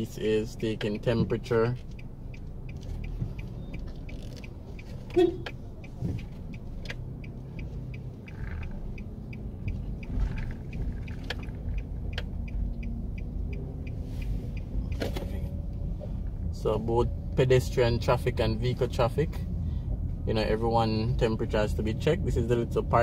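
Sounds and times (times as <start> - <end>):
car engine running low: 0.0 - 22.5
steady ticking: 0.0 - 23.0.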